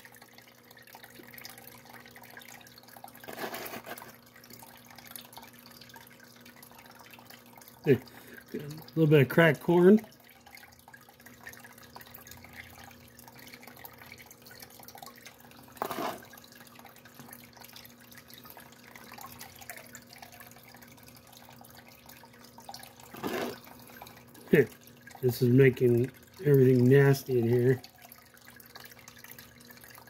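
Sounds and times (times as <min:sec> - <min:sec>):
pump humming: 0:00.0 - 0:30.0
water running over sluice: 0:00.0 - 0:30.0.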